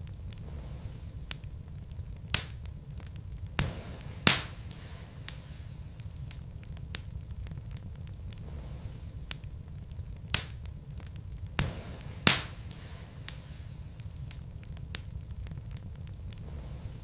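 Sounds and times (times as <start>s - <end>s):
logs crackling in a fireplace: 0.0s - 17.0s
sharp pops of burning logs: 0.0s - 17.0s
steady low rumble of fire: 0.0s - 17.0s.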